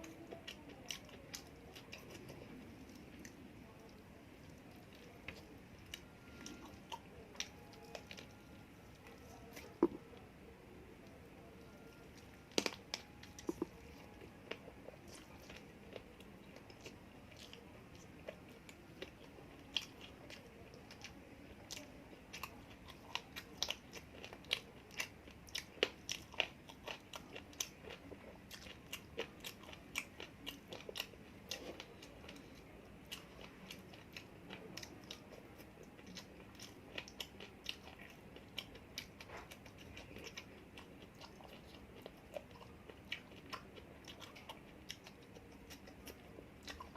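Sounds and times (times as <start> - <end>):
person chewing crunchy food: 0.3 - 10.2, 11.7 - 46.9.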